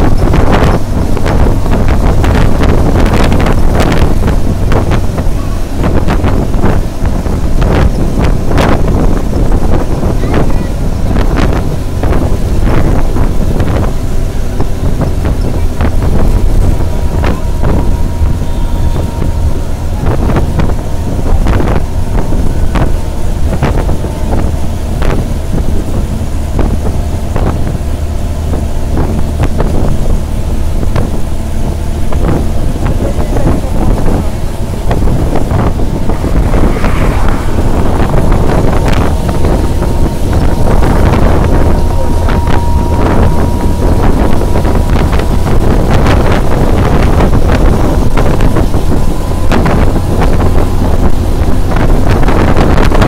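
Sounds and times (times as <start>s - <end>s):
faint steady whine: 0.0s - 53.0s
road and engine rumble: 0.0s - 53.0s
wind buffeting microphone: 0.0s - 53.0s.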